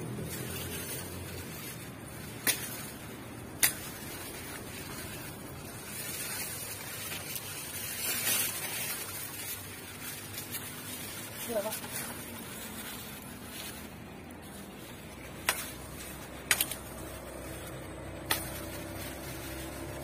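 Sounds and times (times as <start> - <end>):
river water splashing: 0.2 - 20.0.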